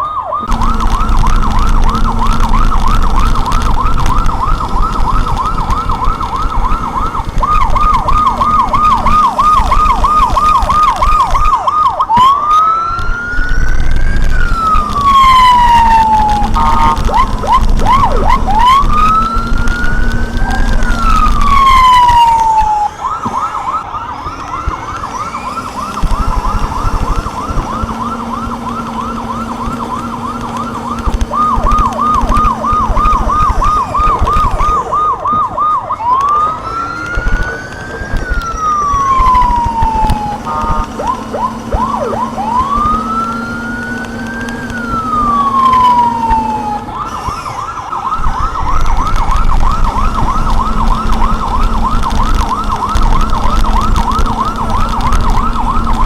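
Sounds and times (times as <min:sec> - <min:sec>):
electronic vehicle siren: 0:00.0 - 0:56.0.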